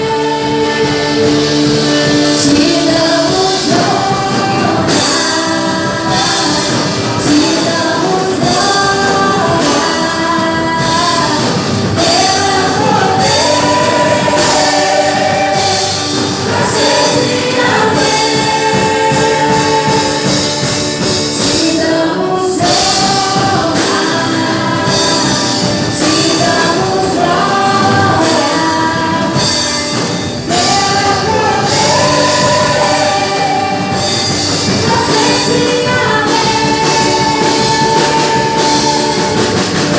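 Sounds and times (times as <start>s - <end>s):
band with steady drum beat: 0.0s - 39.9s
people singing: 0.0s - 39.9s.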